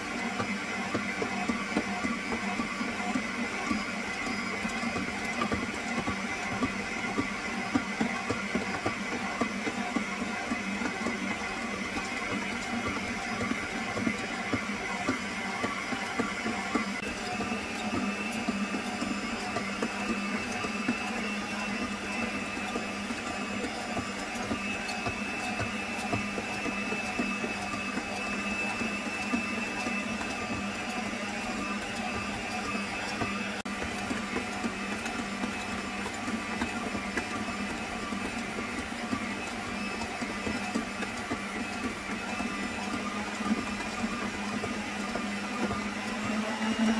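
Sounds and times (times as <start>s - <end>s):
stand mixer motor running: 0.0s - 46.9s.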